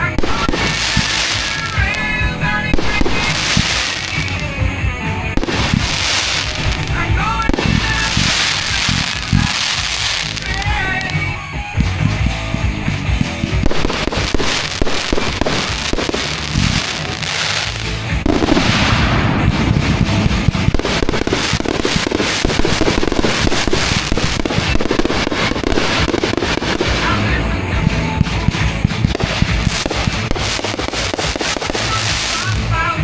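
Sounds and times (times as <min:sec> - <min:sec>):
fireworks bangs and crackles: 0:00.0 - 0:33.0
music playing: 0:00.0 - 0:33.0.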